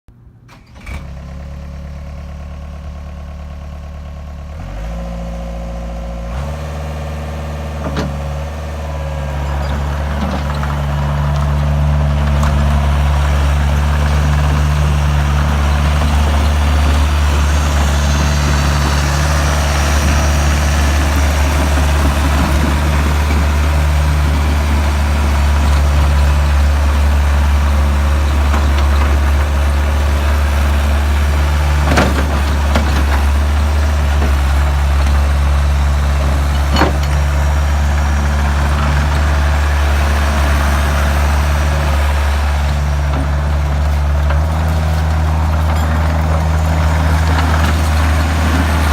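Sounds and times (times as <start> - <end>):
diesel engine starting and revving: 0.3 - 48.9.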